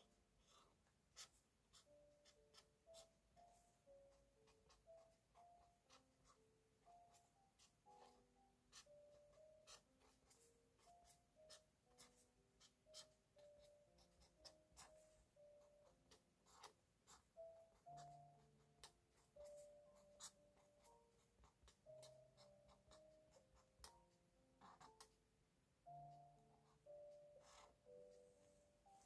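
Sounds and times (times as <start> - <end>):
pen scratching on paper: 0.0 - 25.2, 26.5 - 29.0
soft melody of single notes: 0.0 - 29.0.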